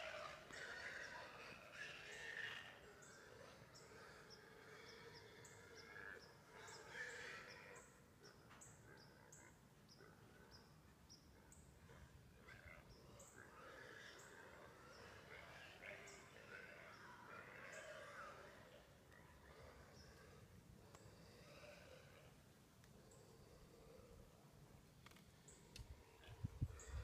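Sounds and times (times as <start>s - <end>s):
small birds chirping: 0.0s - 24.2s.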